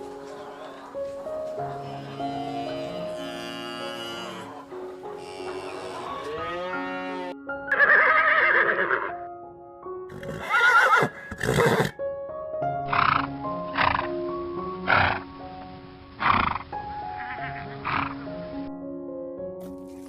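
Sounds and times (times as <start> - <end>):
background music with sustained notes: 0.0 - 20.0.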